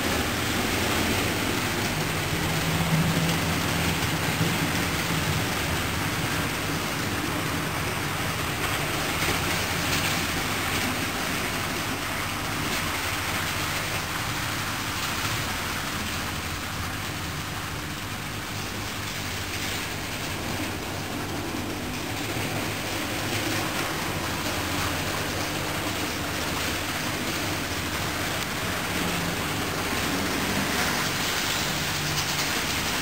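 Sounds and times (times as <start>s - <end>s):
model train running on track: 0.0s - 33.0s.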